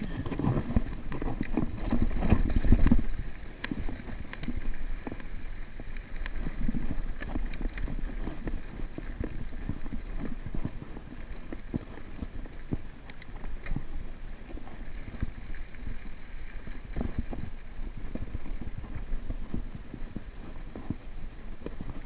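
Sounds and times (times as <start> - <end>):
wind buffeting microphone: 0.0 - 5.2, 6.2 - 22.0
bike clicks and rattles: 0.0 - 22.0
bike tyre noise on dirt: 0.0 - 22.0.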